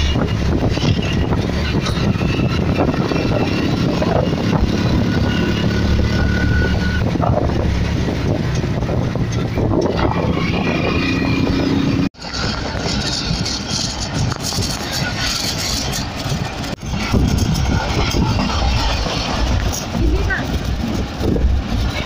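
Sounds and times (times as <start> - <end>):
vehicle rumble and wind: 0.0 - 22.0.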